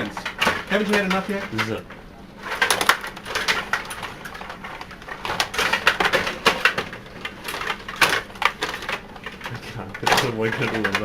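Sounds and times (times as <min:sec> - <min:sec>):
plastic players and rods clacking: 0:00.0 - 0:11.0.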